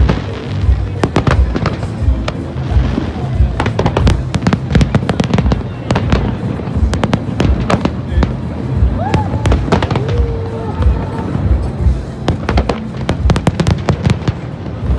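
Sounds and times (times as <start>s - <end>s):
fireworks bangs and crackles: 0.0s - 14.9s
music with low bass: 0.0s - 14.9s.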